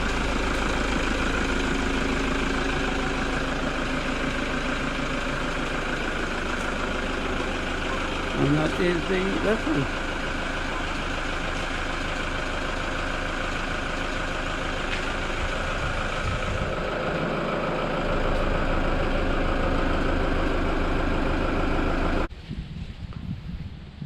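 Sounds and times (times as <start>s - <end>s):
engine idling: 0.0s - 22.3s.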